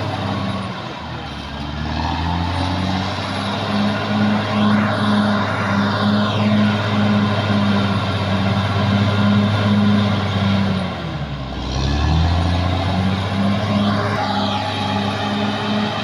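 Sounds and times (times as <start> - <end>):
bulldozer diesel engine running hard: 0.0 - 16.0.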